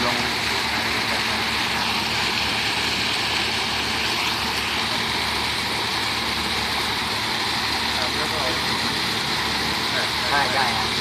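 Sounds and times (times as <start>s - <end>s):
water pouring down waterfall: 0.0s - 11.0s.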